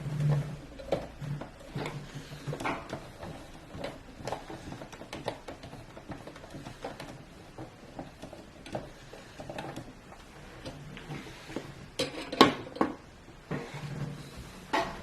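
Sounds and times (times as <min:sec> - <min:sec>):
computer parts clicking and tapping: 0:00.0 - 0:13.1.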